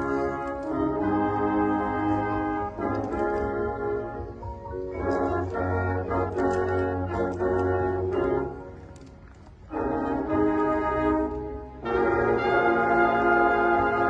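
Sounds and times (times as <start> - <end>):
marching band brass chords: 0.0 - 14.0.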